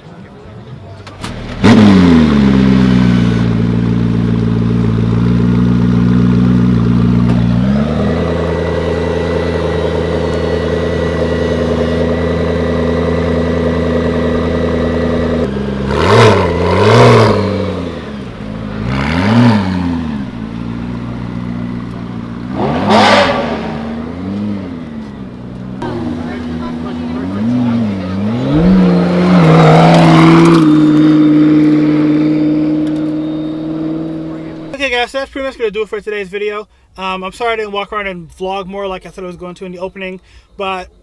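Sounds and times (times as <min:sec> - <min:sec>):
car engine idling and revving: 0:00.6 - 0:34.8.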